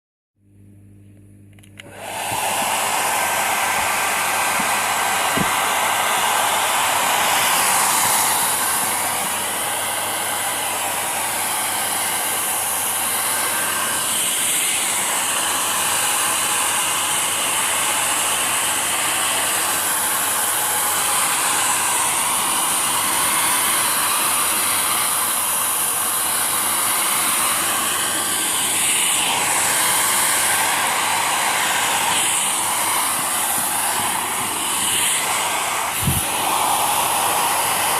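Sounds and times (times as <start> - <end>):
hair dryer running: 1.5 - 37.9.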